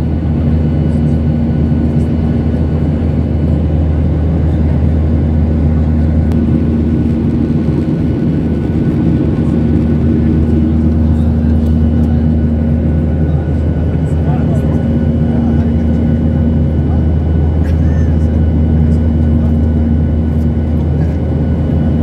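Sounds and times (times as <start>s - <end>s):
jet airliner cabin drone: 0.0s - 22.0s.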